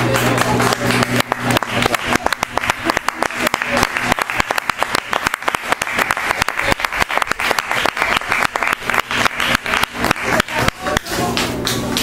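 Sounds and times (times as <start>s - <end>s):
spectators clapping: 0.0s - 12.0s.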